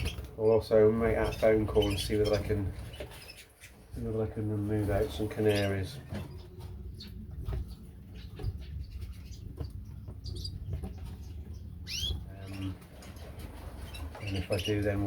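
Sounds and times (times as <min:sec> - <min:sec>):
finches ticking and scuffling: 0:00.0 - 0:15.0.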